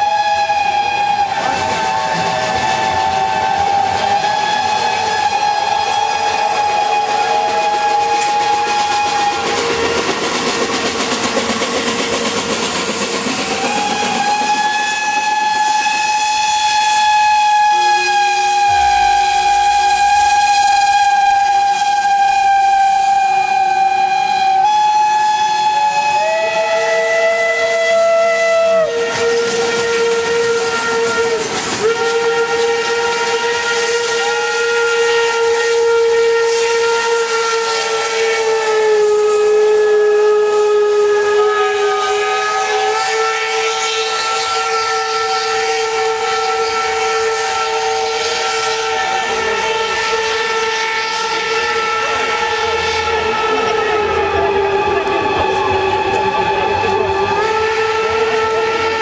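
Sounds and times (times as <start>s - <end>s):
steam hissing: 0.0s - 59.0s
steam locomotive whistles chord: 0.0s - 59.0s.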